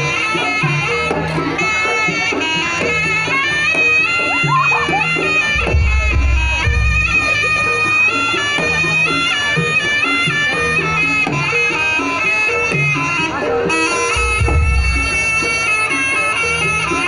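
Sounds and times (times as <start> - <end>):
drums: 0.0 - 17.0
shawm playing wavering melody: 0.0 - 17.0.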